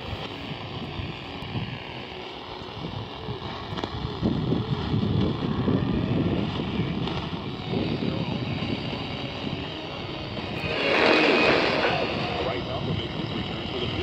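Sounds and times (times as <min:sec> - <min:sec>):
shortwave radio static: 0:00.0 - 0:14.0.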